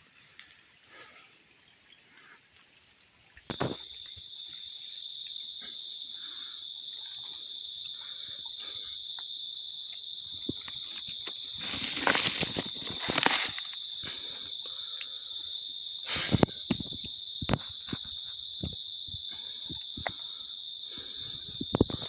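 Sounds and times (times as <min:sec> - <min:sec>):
insect trilling: 0:03.5 - 0:22.0.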